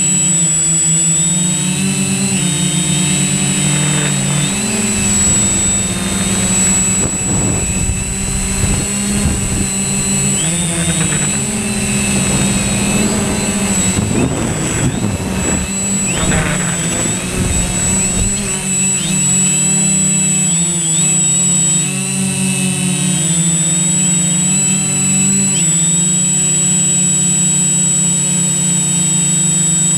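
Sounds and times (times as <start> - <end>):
drone propellers buzzing: 0.0 - 29.9.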